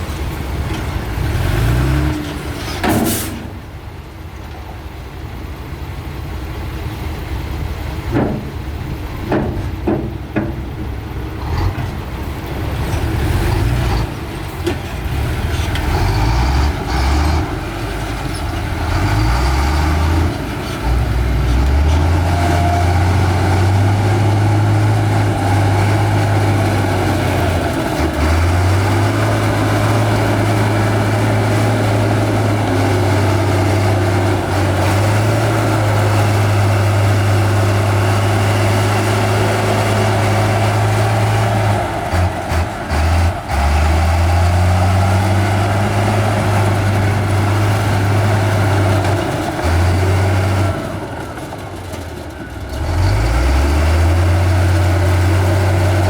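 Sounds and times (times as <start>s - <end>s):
heavy diesel engine working: 0.0s - 56.0s.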